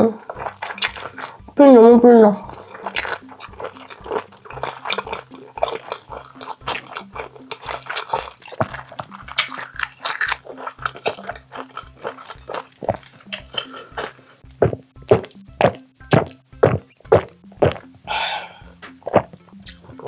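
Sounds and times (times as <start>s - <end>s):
background music with steady beat: 0.0s - 20.0s
wet chewing sounds: 0.0s - 20.0s.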